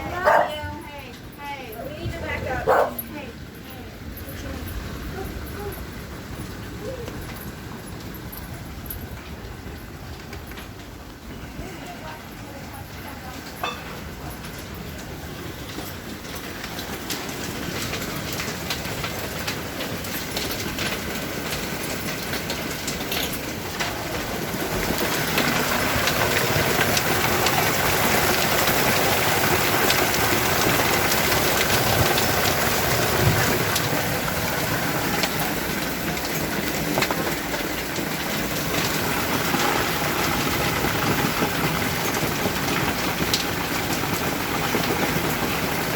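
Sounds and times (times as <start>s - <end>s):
hail clattering: 0.0s - 45.9s.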